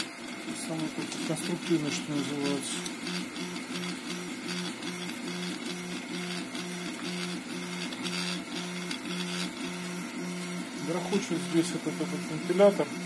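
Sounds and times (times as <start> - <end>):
rattling cooling fan hiss: 0.0 - 13.0
stepper motors whining: 0.0 - 13.0.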